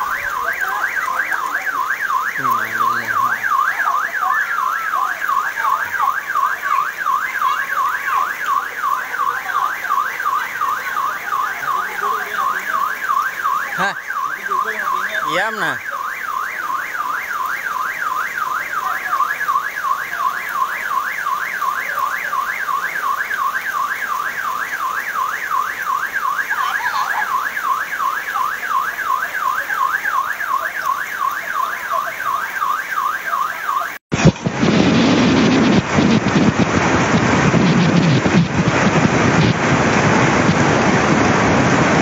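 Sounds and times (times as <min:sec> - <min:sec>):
heavy rain hissing: 0:00.0 - 0:32.5, 0:34.1 - 0:42.0
car alarm warbling siren: 0:00.0 - 0:36.3, 0:37.1 - 0:39.6.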